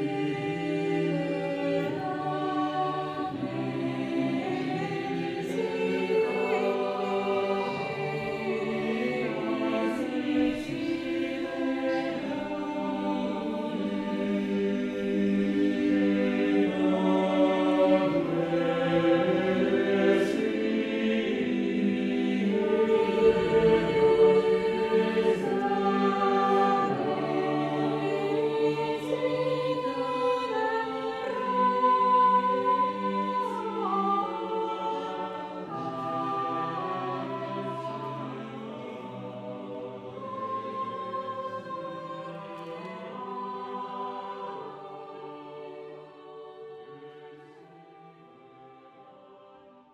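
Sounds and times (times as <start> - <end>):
church choir singing: 0.0 - 49.9.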